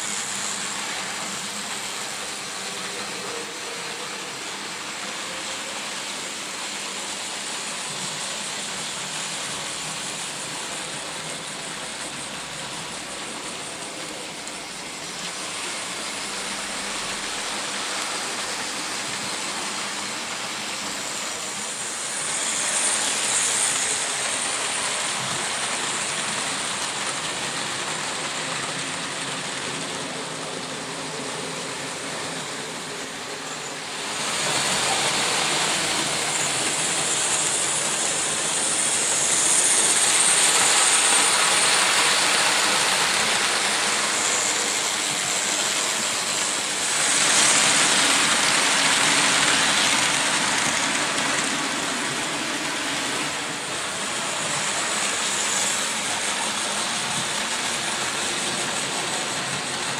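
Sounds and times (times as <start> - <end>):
model trains rolling on rails: 0.0 - 59.9.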